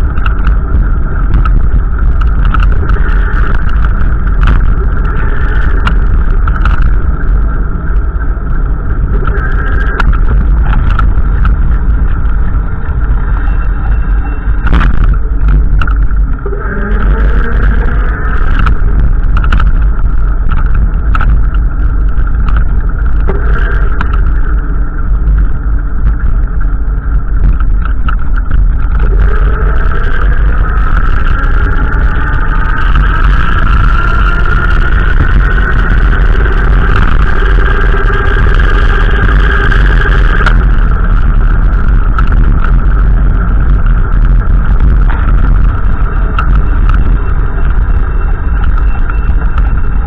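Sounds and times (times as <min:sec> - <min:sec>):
motor vehicle engine running: 0:00.0 - 0:50.0
wind rumble on microphone: 0:00.0 - 0:50.0.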